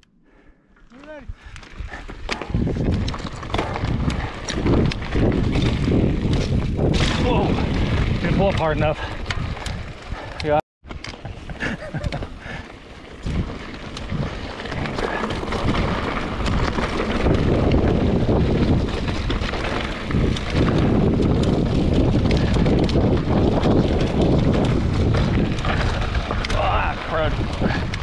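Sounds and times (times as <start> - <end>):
bike knocks and rattles: 1.0 - 28.0
wind buffeting microphone: 1.1 - 28.0.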